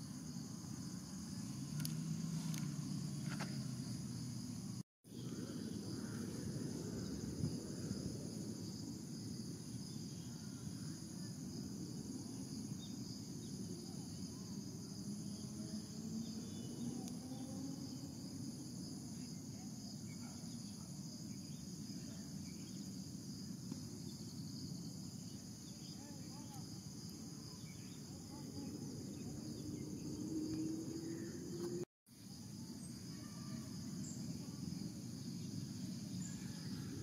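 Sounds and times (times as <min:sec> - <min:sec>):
insects singing: 0:00.0 - 0:37.0.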